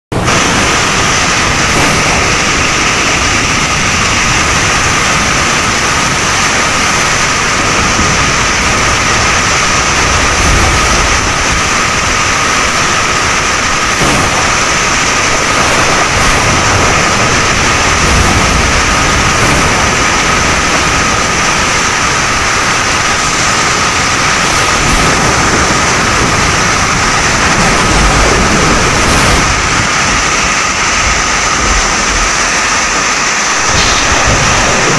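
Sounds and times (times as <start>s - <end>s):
gusting wind: 0.1s - 34.9s
heavy rain: 0.1s - 34.9s
thin steady whine: 0.1s - 34.9s.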